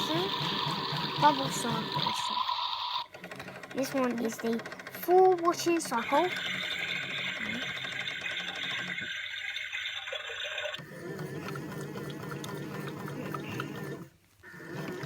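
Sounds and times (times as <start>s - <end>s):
toy washing machine sound effect: 0.0s - 15.0s.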